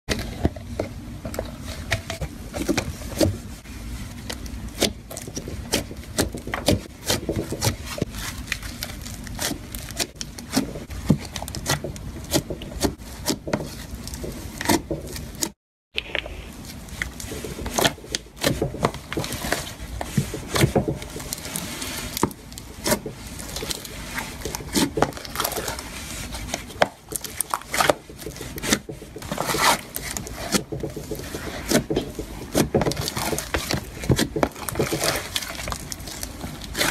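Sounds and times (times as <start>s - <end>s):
hands squishing slime: 2.5s - 36.9s.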